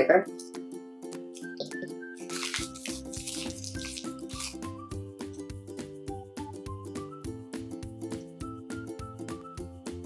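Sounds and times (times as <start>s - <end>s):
light melodic background music: 0.0s - 10.0s.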